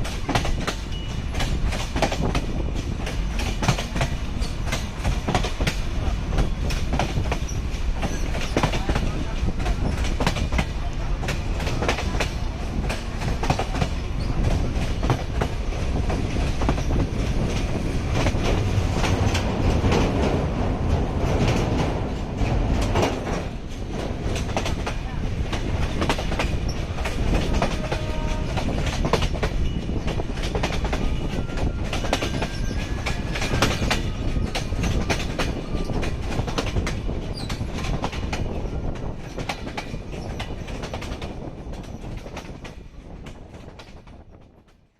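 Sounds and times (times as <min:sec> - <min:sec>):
wheels clacking over rail joints: 0:00.0 - 0:42.8
train rumbling on track: 0:00.0 - 0:44.9.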